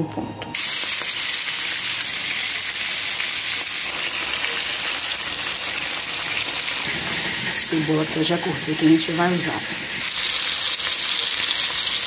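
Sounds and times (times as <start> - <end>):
meat sizzling in oil: 0.6 - 12.0.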